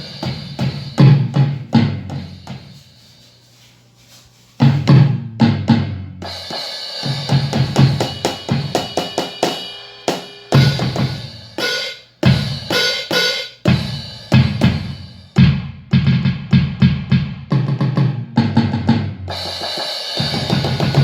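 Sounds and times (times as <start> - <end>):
electronic drum kit sounds: 0.0 - 21.0.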